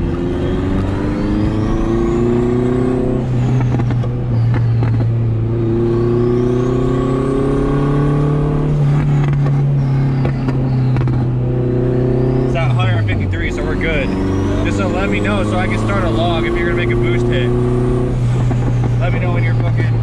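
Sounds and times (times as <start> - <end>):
car engine accelerating hard: 0.0 - 20.0
high turbo whine: 0.0 - 20.0.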